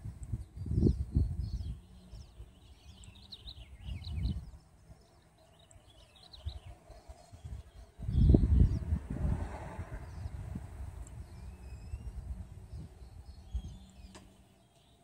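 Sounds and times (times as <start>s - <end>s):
wind gusting on microphone: 0.0s - 14.4s
small birds chirping: 0.0s - 15.0s.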